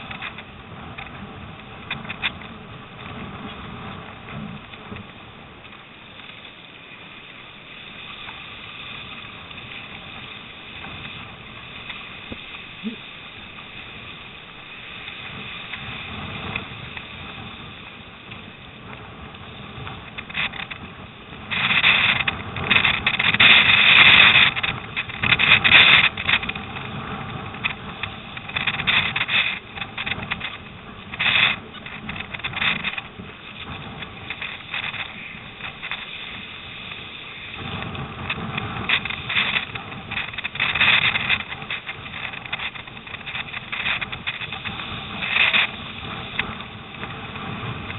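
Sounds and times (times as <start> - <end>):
wind on microphone: 0.0 - 47.9
water rushing and splashing: 1.0 - 47.9.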